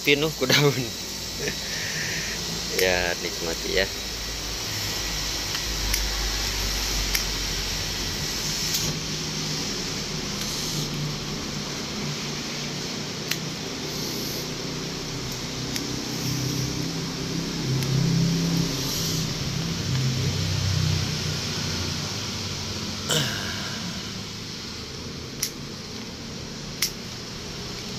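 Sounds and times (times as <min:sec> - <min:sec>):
background hiss and low hum: 0:00.0 - 0:27.9.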